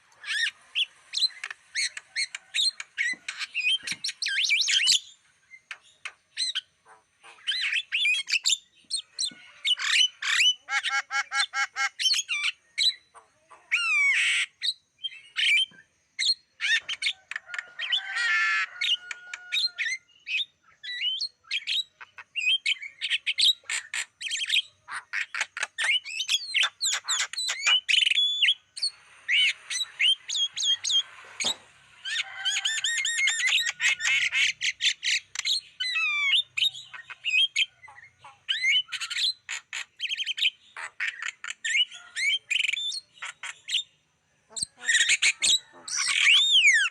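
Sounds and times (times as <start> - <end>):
myna chirping and squawking: 0.0 - 46.9.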